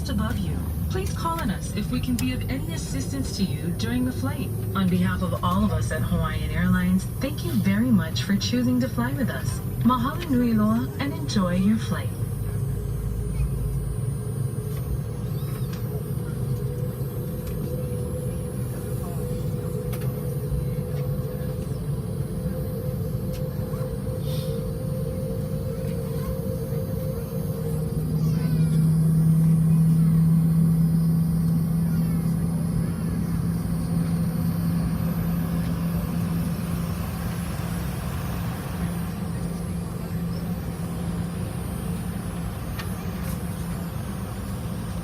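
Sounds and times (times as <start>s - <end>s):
airliner cabin rumble: 0.0s - 45.0s.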